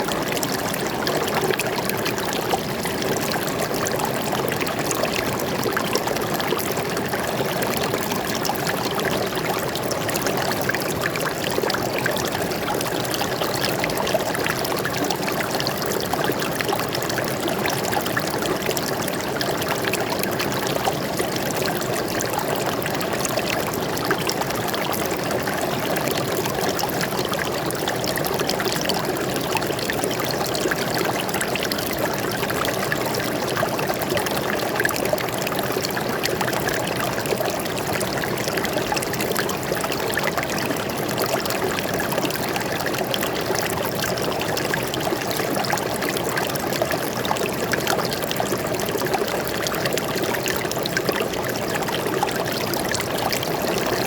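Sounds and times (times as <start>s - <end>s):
water flowing in a stream: 0.0s - 54.0s.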